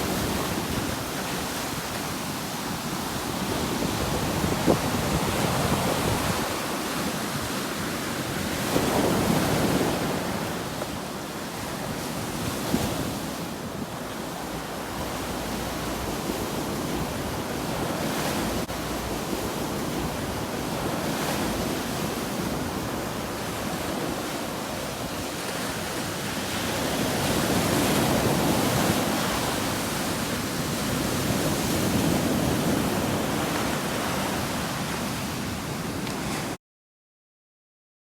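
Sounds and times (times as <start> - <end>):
ocean waves on sandy beach: 0.0 - 36.6.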